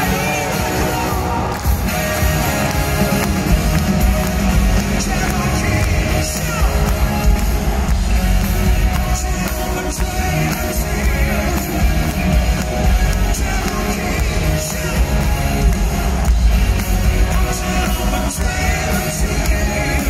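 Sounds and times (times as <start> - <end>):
live rock band playing: 0.0 - 20.0
person singing: 0.0 - 20.0.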